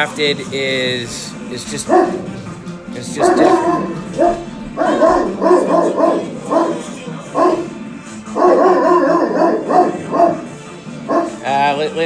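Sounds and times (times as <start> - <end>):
dog barking: 1.8 - 11.5.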